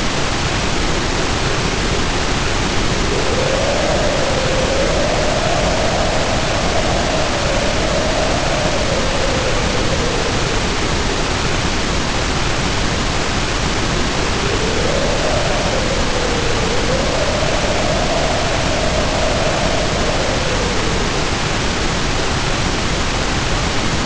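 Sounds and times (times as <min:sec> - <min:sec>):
heavy rain hissing: 0:00.0 - 0:24.0
wind howling: 0:00.0 - 0:24.0.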